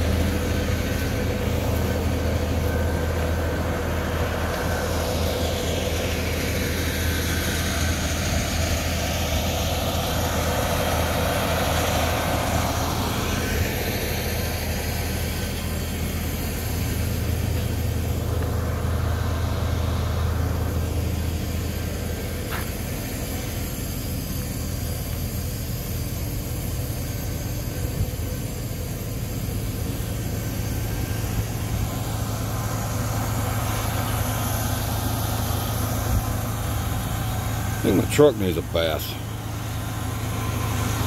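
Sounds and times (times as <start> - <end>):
large diesel engine idling: 0.0 - 41.0.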